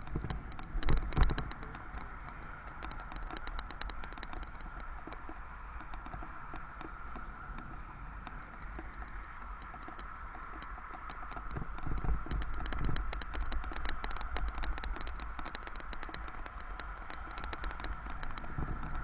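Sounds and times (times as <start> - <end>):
bicycle freewheel ticking: 0.0 - 19.0.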